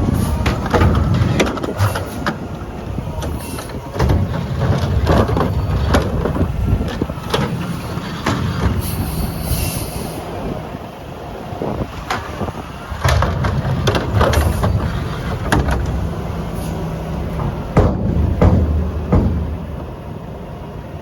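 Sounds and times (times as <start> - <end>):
garbage truck engine rumble: 0.0 - 21.0.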